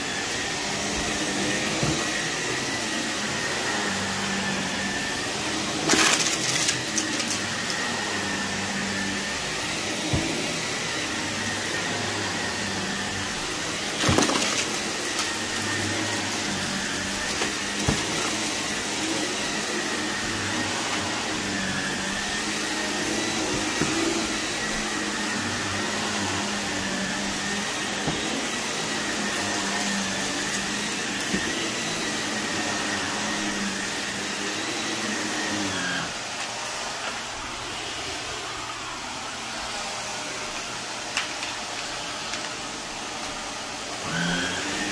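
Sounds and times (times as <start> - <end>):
upright vacuum running on carpet: 0.0 - 44.9.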